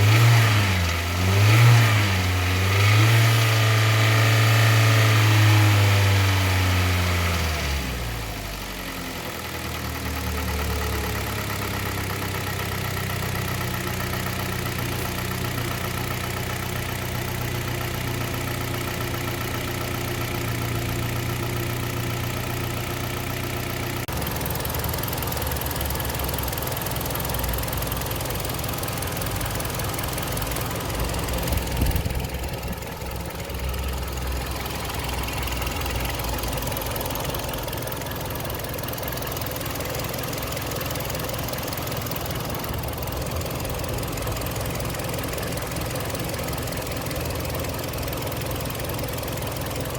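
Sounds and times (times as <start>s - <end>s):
car engine idling: 4.1s - 49.9s.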